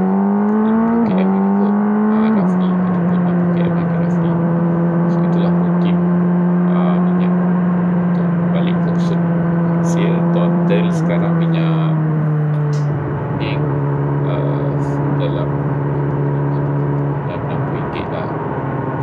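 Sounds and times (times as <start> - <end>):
motorcycle engine upshifting: 0.0 - 19.0.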